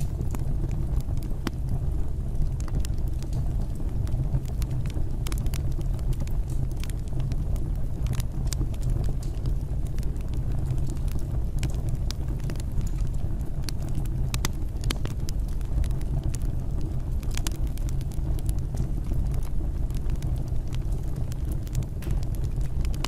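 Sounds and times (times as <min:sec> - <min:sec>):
fire crackles and pops: 0:00.0 - 0:23.0
fire rumbling: 0:00.0 - 0:23.0.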